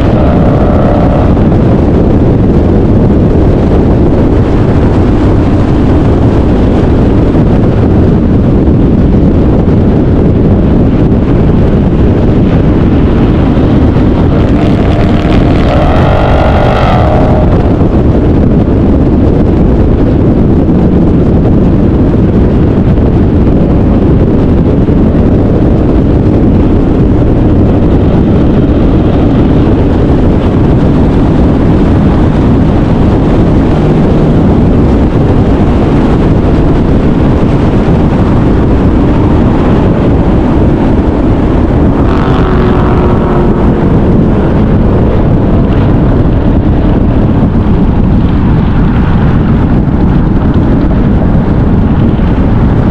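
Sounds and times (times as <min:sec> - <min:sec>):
car engine rumbling: 0:00.0 - 0:52.9
wind noise on microphone: 0:00.0 - 0:52.9.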